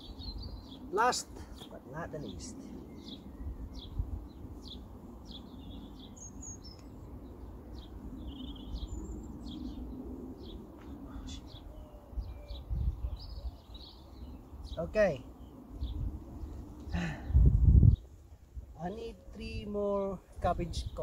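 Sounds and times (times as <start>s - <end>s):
birds chirping and whistling: 0.0s - 1.0s, 1.6s - 18.1s.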